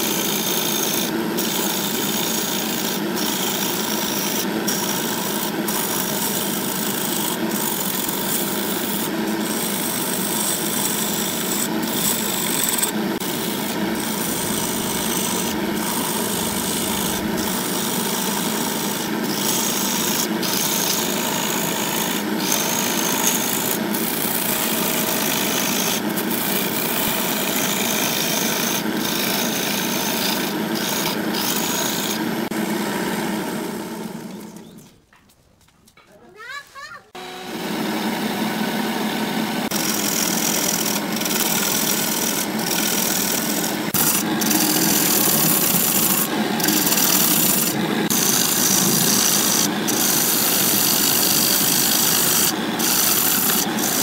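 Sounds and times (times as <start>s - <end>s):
lathe gouge scraping spinning wood: 0.0s - 34.4s, 39.6s - 54.0s.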